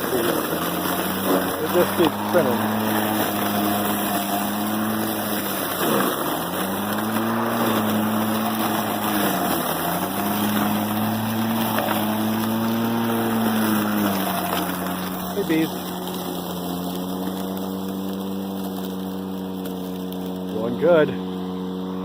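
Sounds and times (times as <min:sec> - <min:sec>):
electric lawn mower running: 0:00.0 - 0:22.0.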